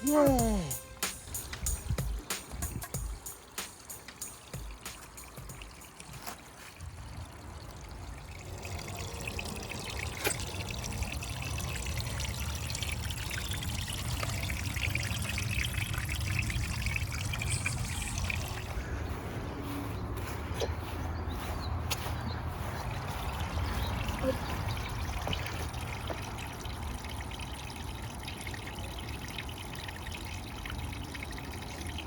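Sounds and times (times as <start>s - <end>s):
water trickling down waterfall: 1.2s - 19.6s, 22.6s - 32.0s.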